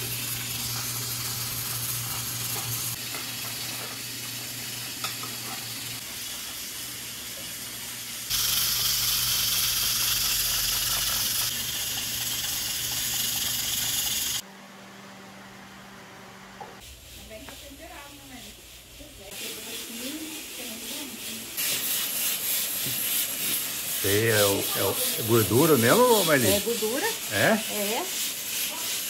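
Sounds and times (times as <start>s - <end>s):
pressure cooker hissing steam: 0.0s - 14.4s, 16.8s - 29.0s.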